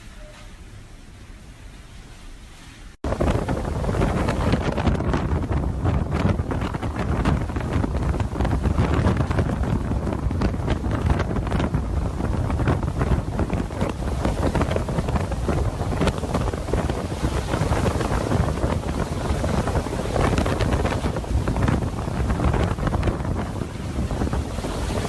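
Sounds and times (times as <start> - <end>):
hurricane wind buffeting microphone: 2.6 - 25.0.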